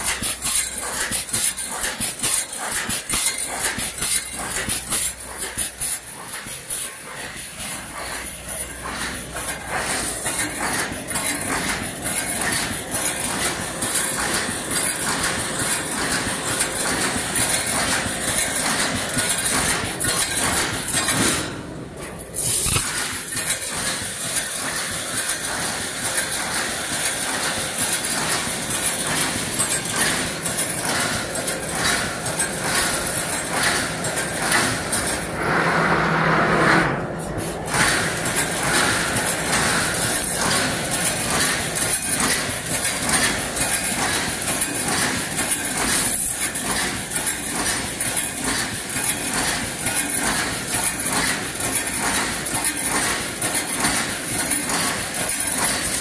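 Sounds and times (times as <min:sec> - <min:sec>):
welding machine clattering: 0:00.0 - 0:35.6, 0:36.8 - 0:56.0.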